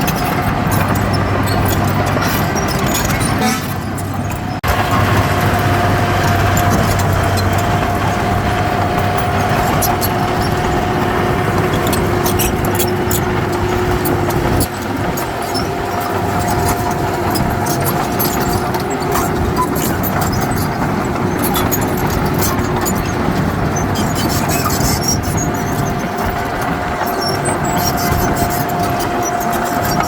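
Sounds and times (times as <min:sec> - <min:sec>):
heavy diesel machinery running: 0:00.0 - 0:30.0.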